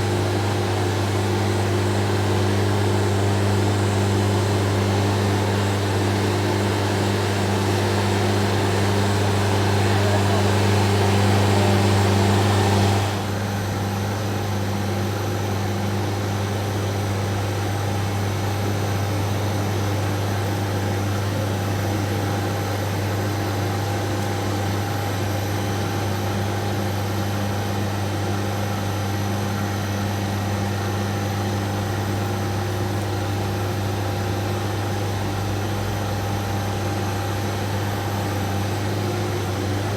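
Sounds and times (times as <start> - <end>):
floor grinder humming: 0.0 - 15.4, 18.2 - 39.9.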